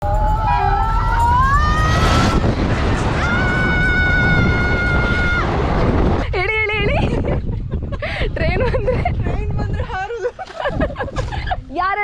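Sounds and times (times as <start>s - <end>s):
passing train rumble: 0.0s - 9.7s.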